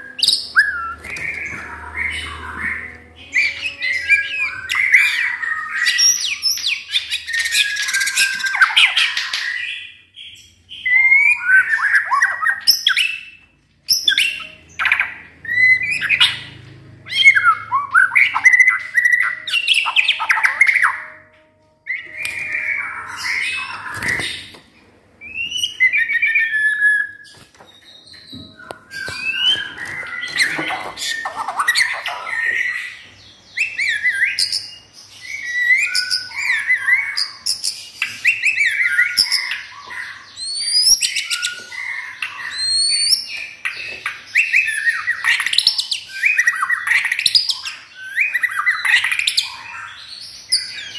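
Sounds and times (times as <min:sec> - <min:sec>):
bird singing whistles and chirps: 0:00.0 - 0:16.4, 0:25.2 - 0:50.9.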